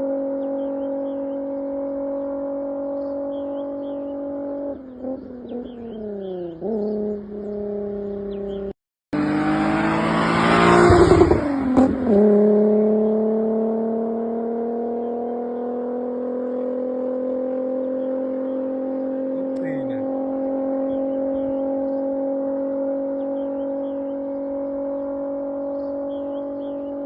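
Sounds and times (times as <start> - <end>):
car engine at high revs: 0.0 - 27.0
rough engine and tyre noise: 0.0 - 27.0.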